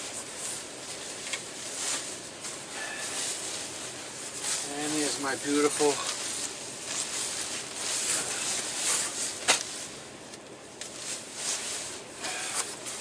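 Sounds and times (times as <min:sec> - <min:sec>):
sleeping bag nylon rustling: 0:00.0 - 0:10.2, 0:10.8 - 0:13.0.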